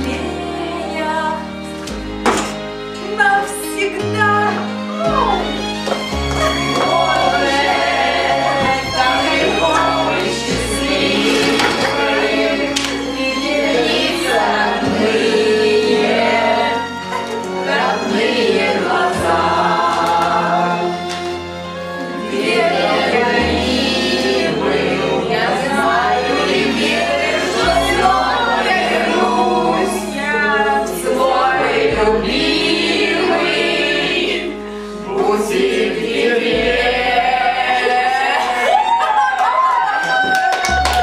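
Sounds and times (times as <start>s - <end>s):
group singing in chorus: 0.0s - 2.6s, 5.6s - 40.0s
musical accompaniment with bass: 0.0s - 41.0s.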